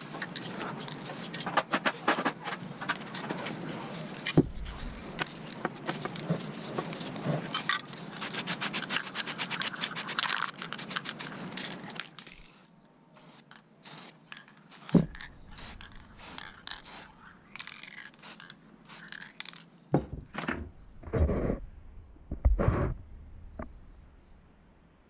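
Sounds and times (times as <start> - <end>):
scraping and rubbing strokes: 0.0 - 19.8, 20.8 - 24.0.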